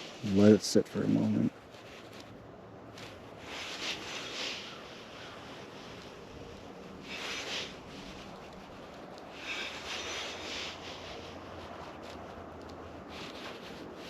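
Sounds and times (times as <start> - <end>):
soft rustling and rubbing: 0.0 - 14.0.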